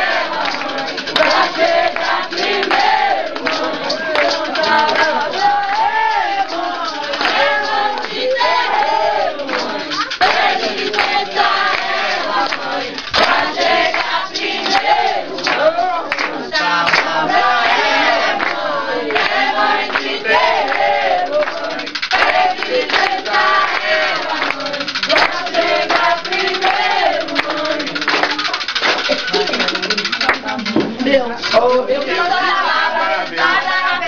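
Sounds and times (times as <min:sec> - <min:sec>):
group chanting: 0:00.0 - 0:29.7, 0:30.5 - 0:34.0.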